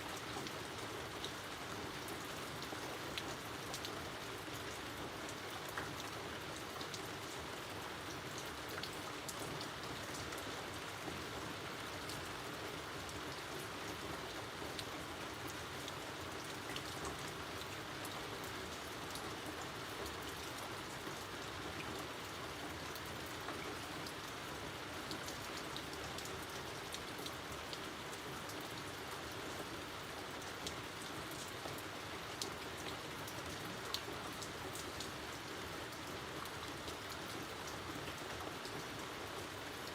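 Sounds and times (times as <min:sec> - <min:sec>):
raindrops ticking on a surface: 0:00.1 - 0:39.9.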